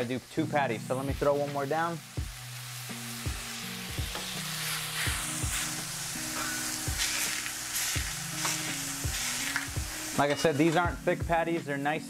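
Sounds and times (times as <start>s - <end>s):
burger patties sizzling on griddle: 0.0s - 11.1s
background music beat: 0.3s - 12.0s.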